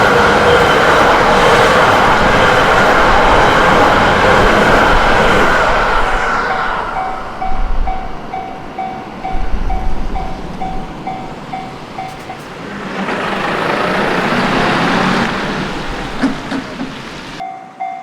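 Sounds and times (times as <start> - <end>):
approaching vehicle rumble: 0.0 - 17.4
passing train: 0.0 - 18.0.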